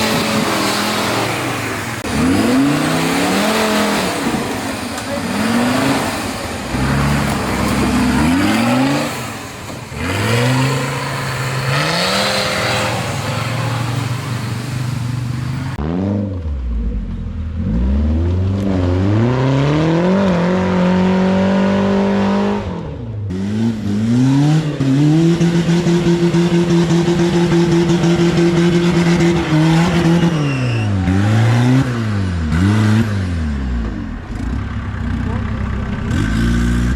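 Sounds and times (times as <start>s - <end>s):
off-road engine revving hard: 0.0s - 36.9s.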